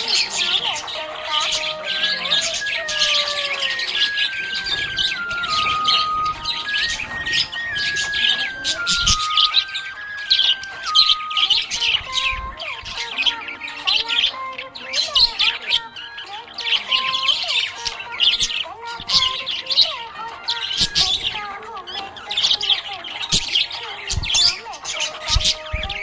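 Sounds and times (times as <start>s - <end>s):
budgerigars chirping: 0.0s - 26.0s.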